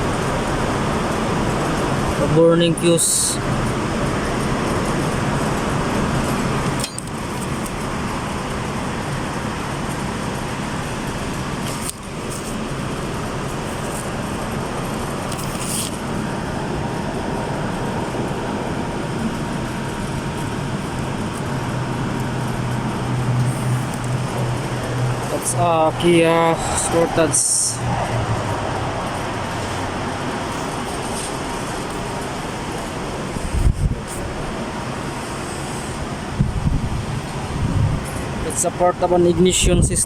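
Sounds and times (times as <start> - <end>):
steady rushing noise: 0.0 - 40.0.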